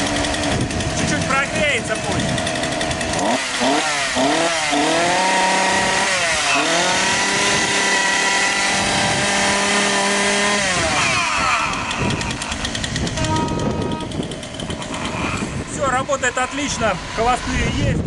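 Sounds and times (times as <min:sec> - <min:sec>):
chainsaw revving and idling: 0:00.0 - 0:17.7.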